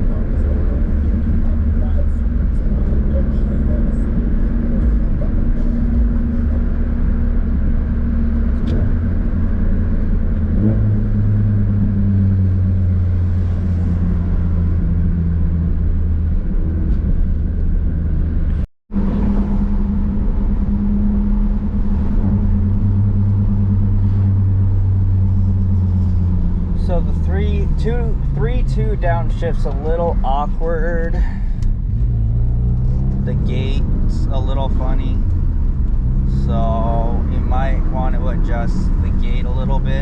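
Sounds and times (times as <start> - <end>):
car engine shifting gears: 0.0 - 40.0
road noise inside car: 0.0 - 40.0.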